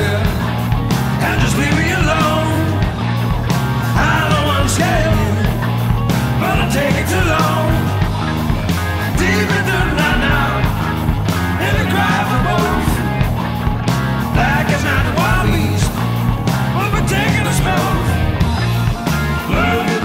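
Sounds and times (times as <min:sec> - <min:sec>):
bending guitar lead line: 0:00.0 - 0:20.0
blues rock band playing: 0:00.0 - 0:20.0.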